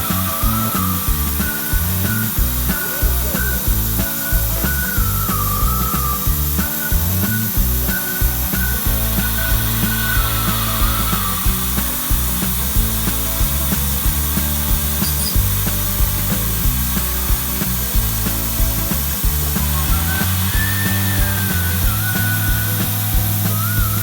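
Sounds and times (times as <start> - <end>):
cnc machine milling: 0.0 - 17.0, 17.8 - 24.0
background music with beat: 0.0 - 24.0
high-pitched spindle whine: 0.0 - 24.0.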